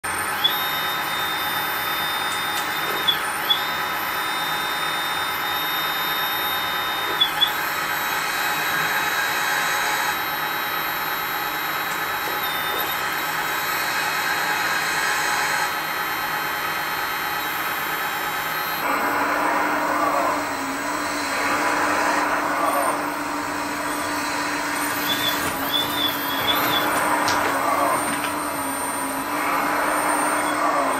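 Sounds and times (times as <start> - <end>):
hydraulic system whining: 0.0 - 30.9.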